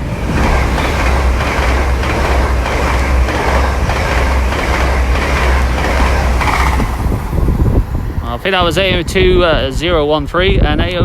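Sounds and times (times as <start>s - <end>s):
wheels clacking on rail joints: 0.0s - 10.8s
train rumbling past: 0.0s - 11.0s.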